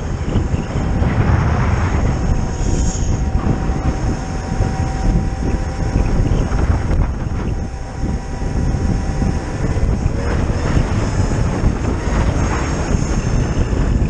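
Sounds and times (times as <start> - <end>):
electric motor whine: 0.0 - 14.0
wind rushing over microphone: 0.0 - 14.0.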